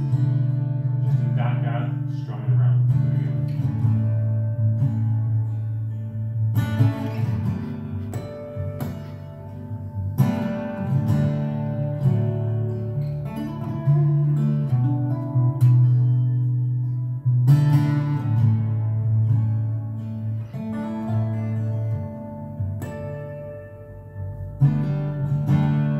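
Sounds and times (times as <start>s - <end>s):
fingerstyle acoustic guitar: 0.0s - 25.9s.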